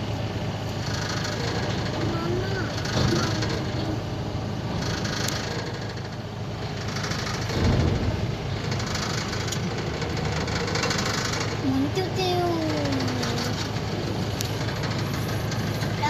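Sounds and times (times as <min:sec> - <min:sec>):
heavy diesel engine idling: 0:00.0 - 0:16.0.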